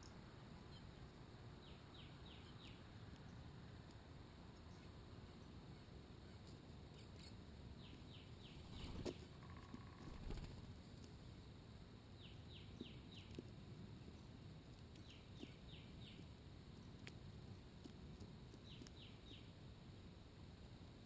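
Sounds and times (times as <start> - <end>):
low outdoor background noise: 0.0 - 21.0.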